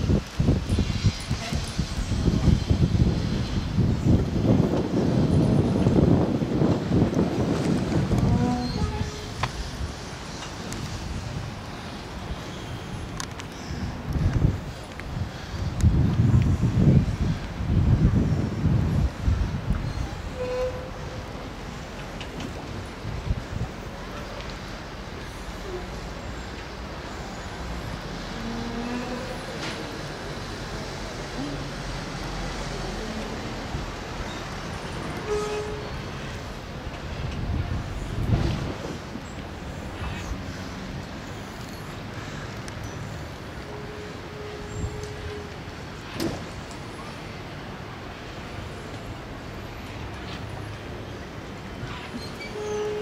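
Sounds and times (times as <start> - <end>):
distant road traffic: 0.0 - 53.0.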